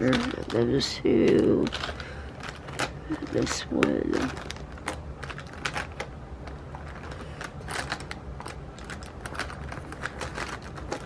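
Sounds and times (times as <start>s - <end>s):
plastic marker pens clicking: 0.0s - 11.0s.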